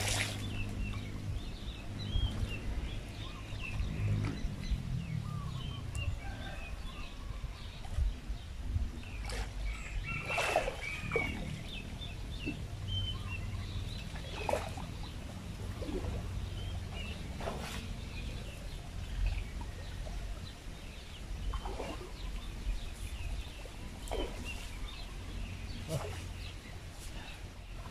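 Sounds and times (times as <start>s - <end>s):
wading through water: 0.0s - 27.9s.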